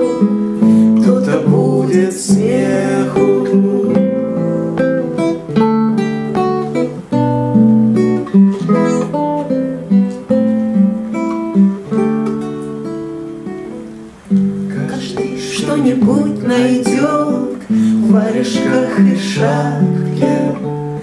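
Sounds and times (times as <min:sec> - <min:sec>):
classical guitar playing: 0:00.0 - 0:21.0.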